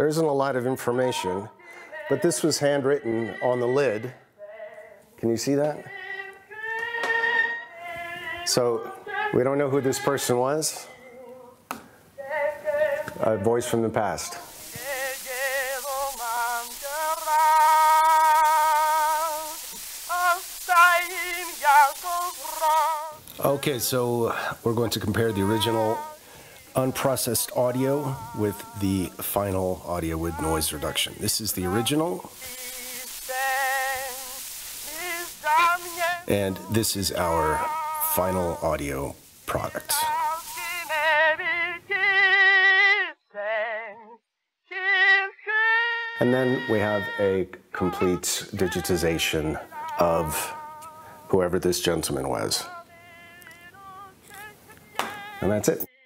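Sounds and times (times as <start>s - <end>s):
man singing: 0.0s - 6.2s, 7.3s - 11.6s, 12.2s - 56.0s
phonograph surface hiss: 0.0s - 43.0s, 44.8s - 55.9s.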